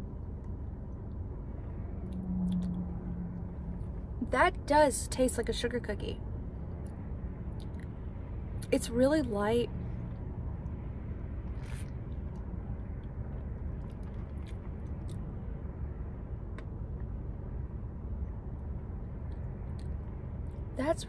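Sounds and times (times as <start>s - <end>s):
car idling rumble: 0.0s - 21.0s.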